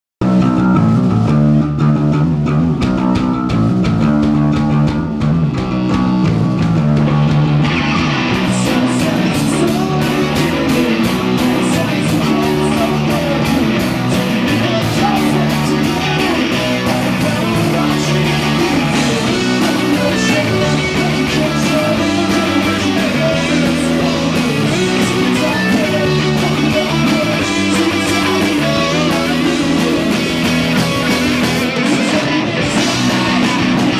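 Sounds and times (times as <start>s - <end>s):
guitar riff: 0.2s - 33.9s
live rock band: 0.2s - 33.9s.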